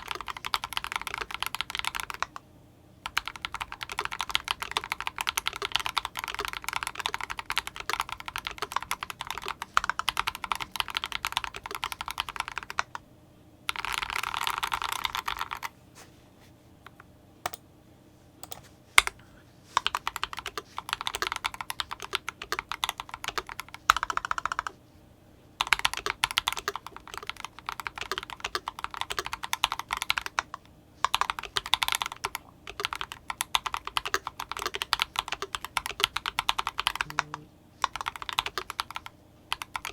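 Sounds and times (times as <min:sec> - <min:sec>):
mechanical keyboard typing: 0:00.0 - 0:02.4, 0:03.0 - 0:13.0, 0:13.7 - 0:15.7, 0:18.4 - 0:19.2, 0:19.8 - 0:24.8, 0:25.6 - 0:39.9.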